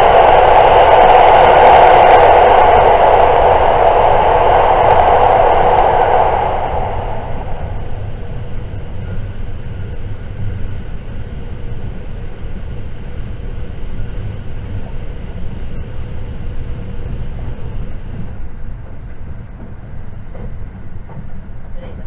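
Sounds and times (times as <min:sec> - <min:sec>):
faint steady hum: 0:00.0 - 0:22.0
train wheels rumbling on rail: 0:00.0 - 0:22.0.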